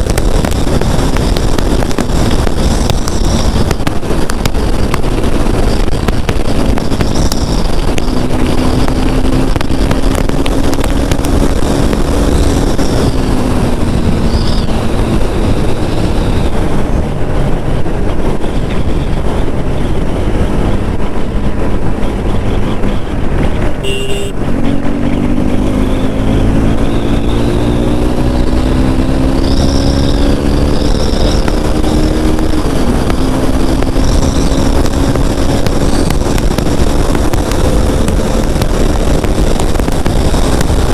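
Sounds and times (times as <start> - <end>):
motorcycle engine accelerating: 0.0 - 40.9
wind rush: 0.0 - 40.9.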